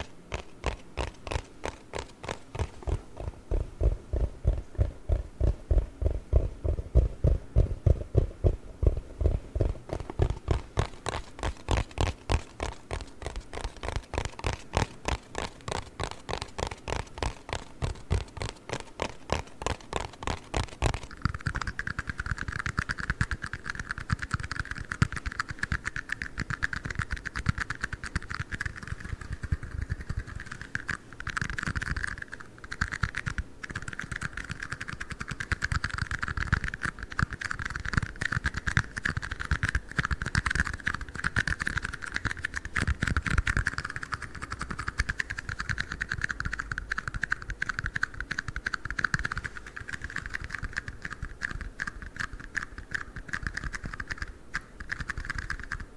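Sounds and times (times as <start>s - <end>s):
rapid tapping on plastic cups: 0.0s - 55.9s.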